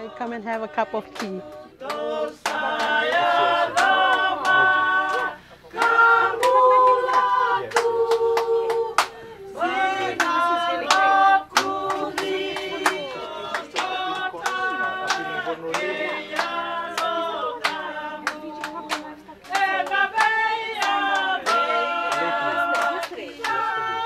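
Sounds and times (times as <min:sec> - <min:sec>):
group singing in harmony: 0:00.0 - 0:24.0
rhythmic hand clapping: 0:00.0 - 0:24.0.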